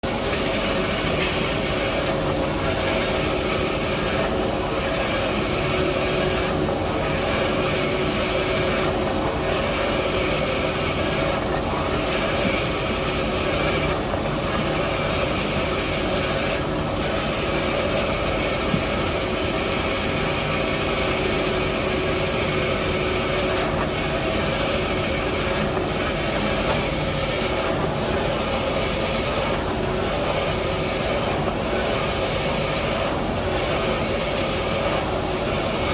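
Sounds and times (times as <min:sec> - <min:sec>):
cutting machine mechanical hum: 0:00.0 - 0:35.9.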